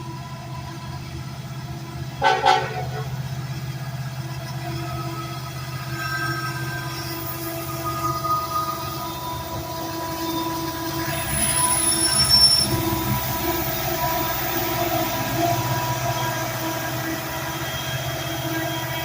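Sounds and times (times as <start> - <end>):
freight cars rumbling: 0.0 - 19.0
steel wheels squealing on rails: 0.0 - 19.0.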